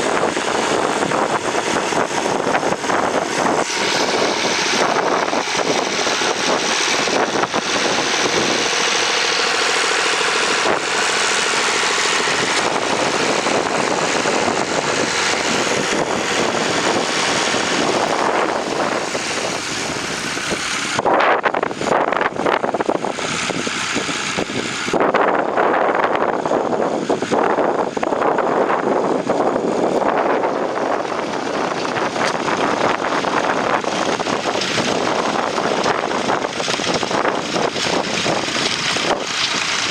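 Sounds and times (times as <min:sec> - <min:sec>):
tractor engine running under load: 0:00.0 - 0:39.9
wind noise on microphone: 0:00.0 - 0:39.9.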